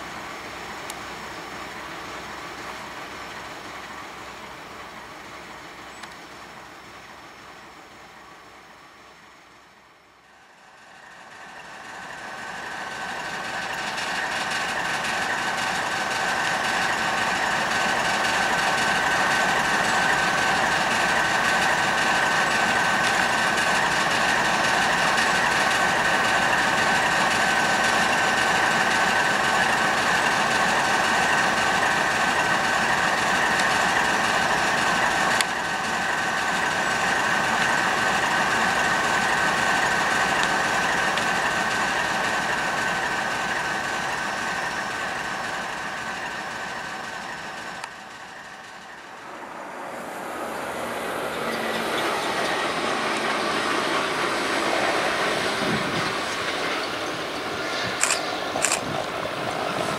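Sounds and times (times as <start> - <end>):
diesel locomotive idling: 0.0 - 59.9
steady high whine: 9.5 - 59.9.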